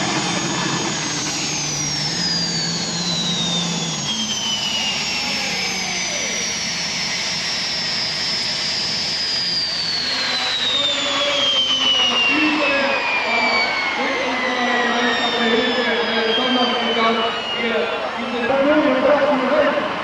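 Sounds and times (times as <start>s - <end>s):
tractor engines roaring with whine: 0.0s - 20.0s.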